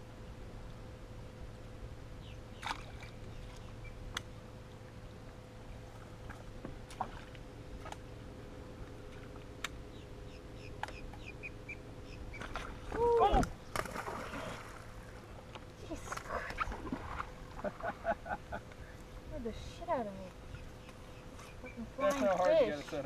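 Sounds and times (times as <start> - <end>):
faint whine: 0.0 - 23.0
steady low hum: 0.0 - 23.0.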